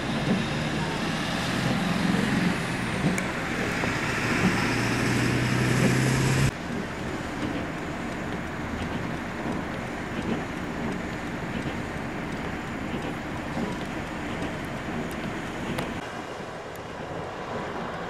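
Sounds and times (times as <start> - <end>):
even road hiss: 0.0 - 18.0
road traffic rumble: 0.0 - 18.0.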